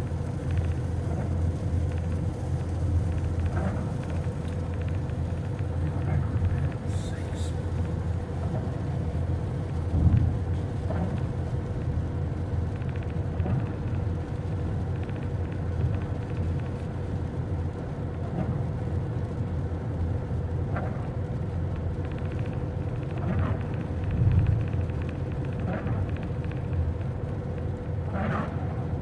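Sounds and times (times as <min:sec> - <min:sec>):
car road noise inside cabin: 0:00.0 - 0:29.0
faint steady hum: 0:00.0 - 0:29.0.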